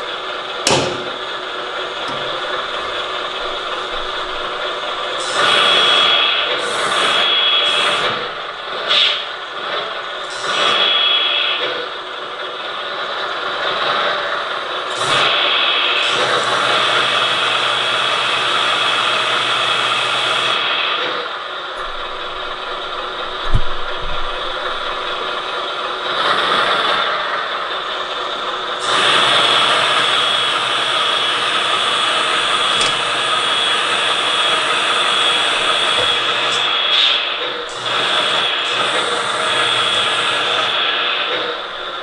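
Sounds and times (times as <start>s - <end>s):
electronic diesel engine sound: 0.0s - 42.0s
hydraulic pump running: 0.0s - 42.0s.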